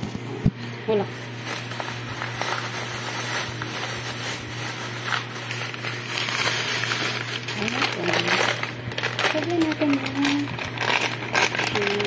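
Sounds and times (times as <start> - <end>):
steady low hum: 0.0 - 12.0
plastic bag crinkling: 1.1 - 12.0.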